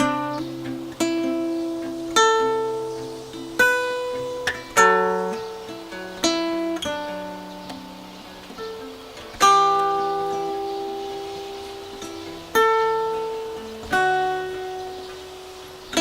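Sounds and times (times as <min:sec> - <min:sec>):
guitar chords ringing: 0:00.0 - 0:16.0.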